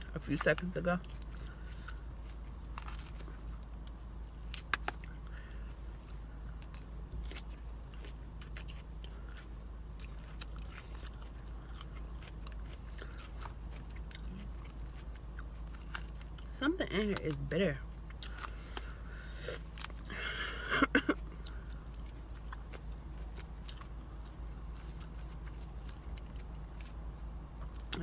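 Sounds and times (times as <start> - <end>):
chewing and crunching salad: 0.0 - 28.0
steady low hum: 0.0 - 28.0.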